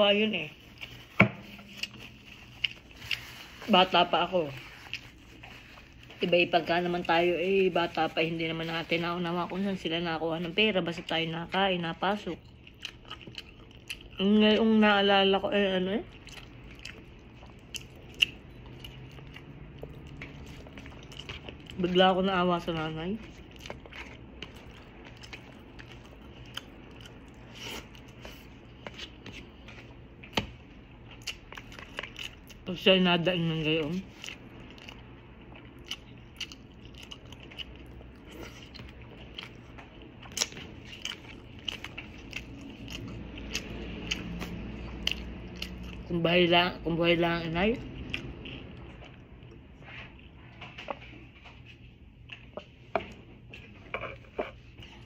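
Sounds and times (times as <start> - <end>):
low steady hum: 0.0 - 55.0
person chewing food: 0.6 - 8.9, 12.2 - 14.3, 16.0 - 32.7, 33.8 - 46.0, 47.8 - 55.0.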